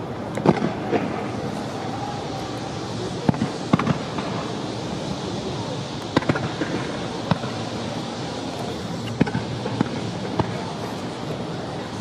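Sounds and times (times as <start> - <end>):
steady background noise: 0.0 - 12.0
fireworks bangs: 0.4 - 11.1.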